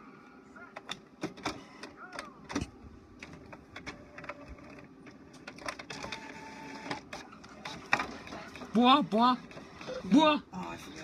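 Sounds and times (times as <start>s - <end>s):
printer motor whine: 0.8s - 11.0s.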